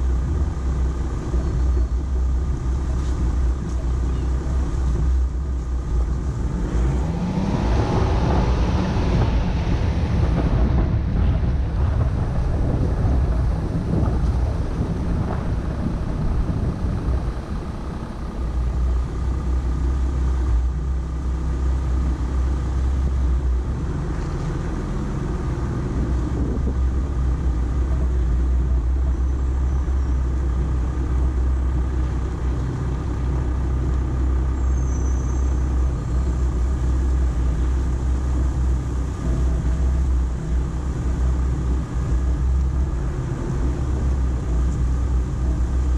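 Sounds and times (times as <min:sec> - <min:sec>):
low engine rumble: 0:00.0 - 0:45.9
vehicle and road noise: 0:00.0 - 0:45.9.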